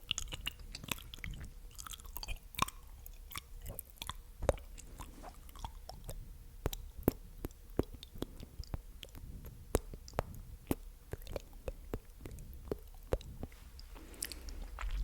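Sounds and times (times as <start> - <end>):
mouth clicks and smacks: 0.0 - 15.0.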